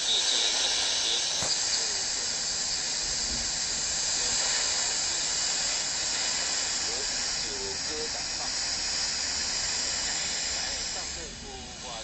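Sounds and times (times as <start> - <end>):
radio static hissing: 0.0 - 12.0.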